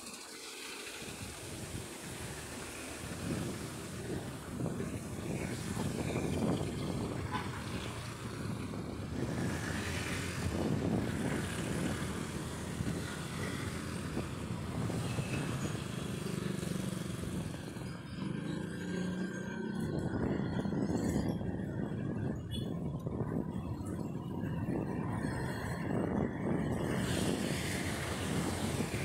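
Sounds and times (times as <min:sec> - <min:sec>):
low traffic rumble: 0:00.0 - 0:29.0
motorcycles and cars passing: 0:00.0 - 0:29.0.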